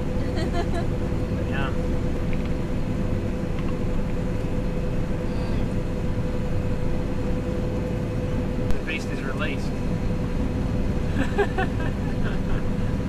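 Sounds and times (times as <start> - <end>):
combine harvester drone: 0.0 - 13.0
machinery whine: 0.0 - 13.0.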